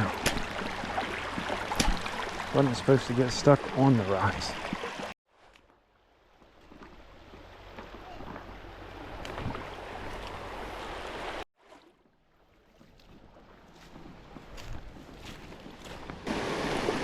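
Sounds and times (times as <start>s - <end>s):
creek water rushing: 0.0s - 5.5s, 6.7s - 11.8s, 13.3s - 17.0s.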